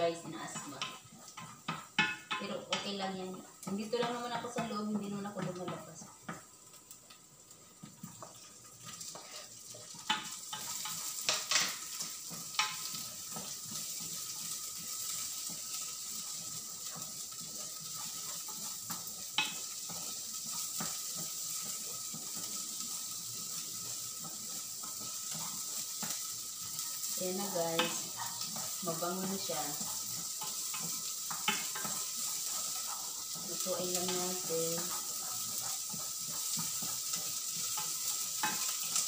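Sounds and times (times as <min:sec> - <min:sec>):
onion and garlic sizzling in oil: 0:00.0 - 0:39.0.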